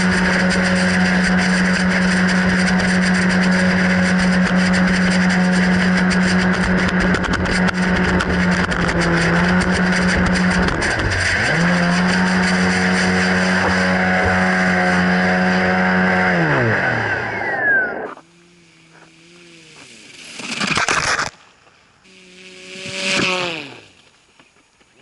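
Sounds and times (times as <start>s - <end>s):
model boat motor drone: 0.0s - 21.3s, 22.0s - 24.3s
faint motor revving: 0.0s - 21.4s, 22.0s - 24.3s.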